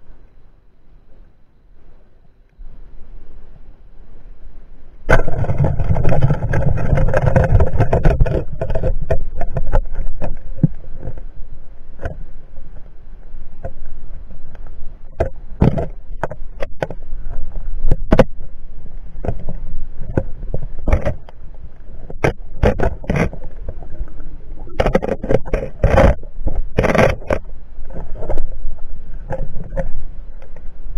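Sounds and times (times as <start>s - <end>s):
underwater rush of water: 2.6s - 30.9s.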